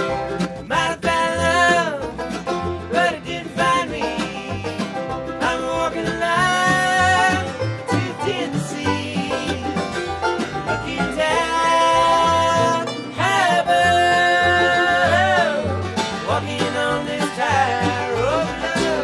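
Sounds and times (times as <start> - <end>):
acoustic guitar: 0.0 - 19.0
banjo picking: 0.0 - 19.0
mandolin picking: 0.0 - 19.0
upright bass walking: 0.0 - 19.0.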